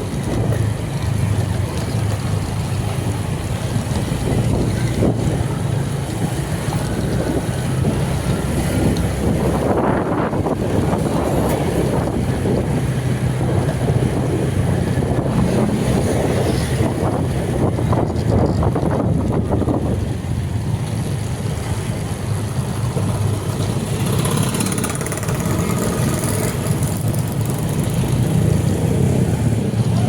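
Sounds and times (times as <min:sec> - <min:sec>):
vehicle engine and road noise: 0:00.0 - 0:30.0
wind on microphone: 0:00.0 - 0:30.0.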